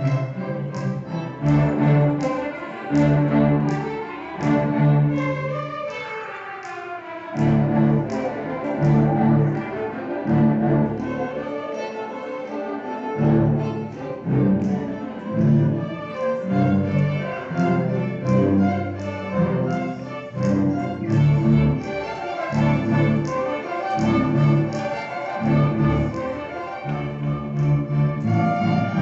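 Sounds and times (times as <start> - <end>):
string orchestra playing: 0.0 - 29.0.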